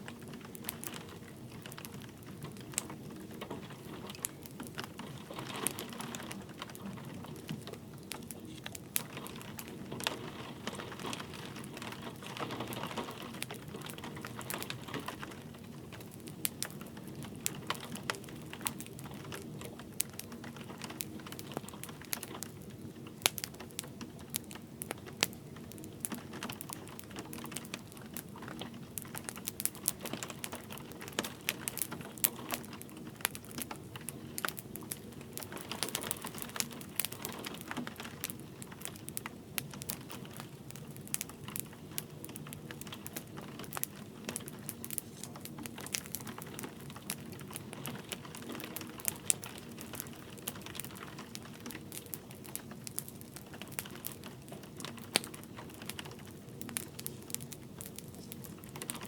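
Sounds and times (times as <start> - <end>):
light rain: 0.0 - 59.0
wood fire crackling and popping: 0.0 - 59.0.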